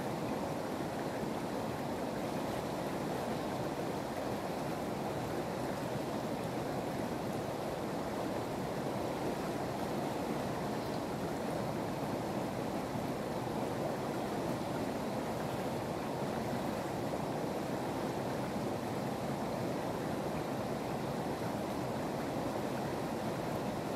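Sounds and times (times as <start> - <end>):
river water rushing over rocks: 0.0 - 23.9.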